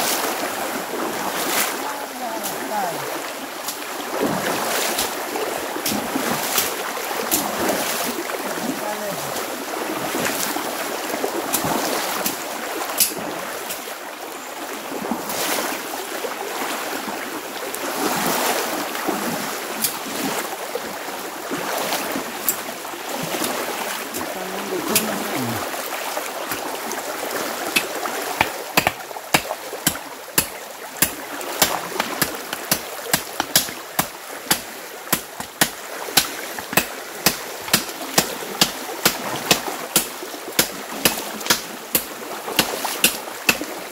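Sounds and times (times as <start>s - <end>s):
rushing creek water: 0.0s - 43.9s.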